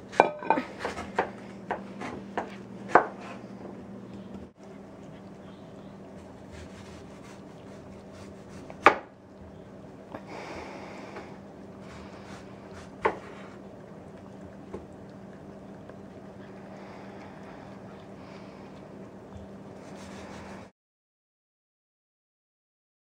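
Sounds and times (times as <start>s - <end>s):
steady low hum: 0.0s - 20.7s
cats chewing and licking: 0.7s - 20.7s.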